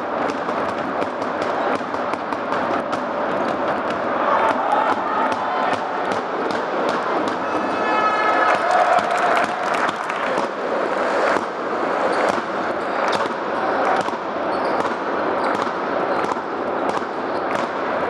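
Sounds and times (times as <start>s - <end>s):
crowd murmur: 2.4s - 18.0s.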